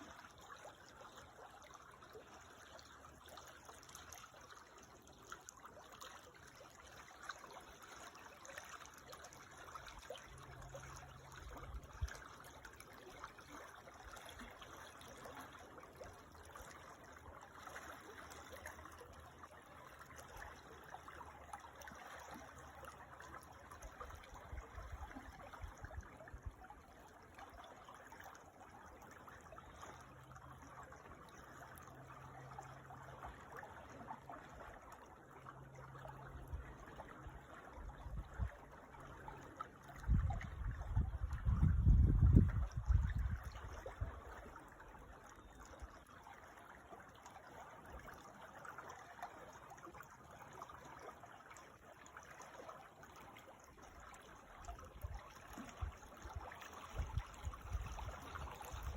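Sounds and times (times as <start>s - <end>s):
creek babbling over stones: 0.0s - 58.9s.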